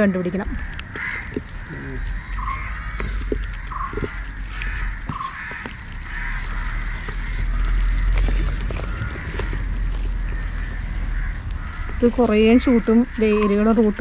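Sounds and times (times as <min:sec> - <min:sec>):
crows cawing: 0:00.0 - 0:14.0
soil and roots crackling: 0:00.0 - 0:14.0
steady low rumble: 0:00.0 - 0:14.0.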